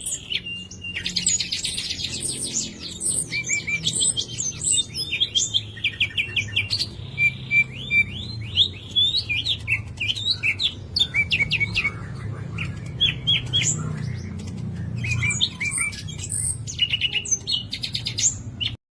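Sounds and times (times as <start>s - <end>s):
songbird singing: 0.0s - 18.8s.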